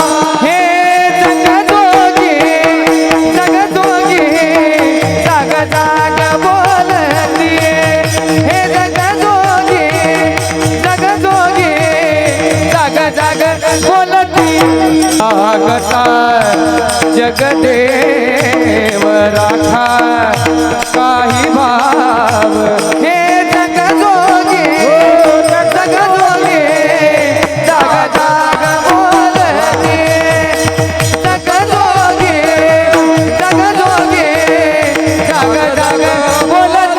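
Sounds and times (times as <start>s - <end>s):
hand drum rhythm: 0.0s - 36.9s
man singing devotional melody: 0.0s - 36.9s.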